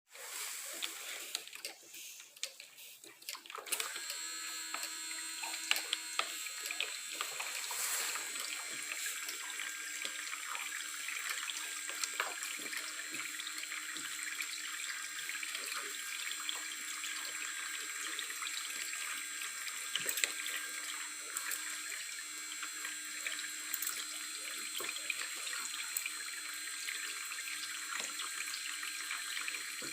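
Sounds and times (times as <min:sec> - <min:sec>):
small splashes and drips: 0:00.6 - 0:29.9
tap water running into sink: 0:03.1 - 0:29.9.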